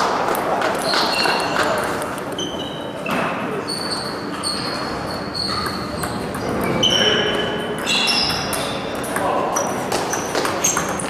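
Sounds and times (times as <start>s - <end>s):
table tennis balls bouncing: 0.0s - 11.0s.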